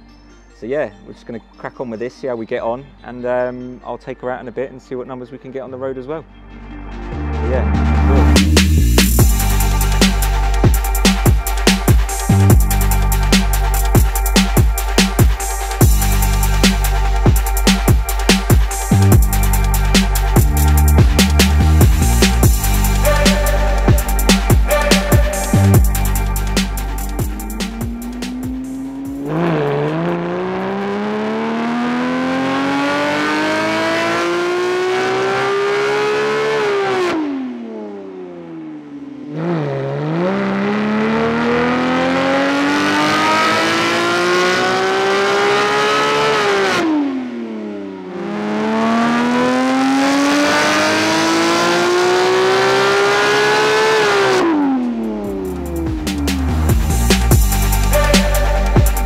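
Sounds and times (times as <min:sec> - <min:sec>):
car engine revving at full throttle: 0:08.0 - 0:59.0.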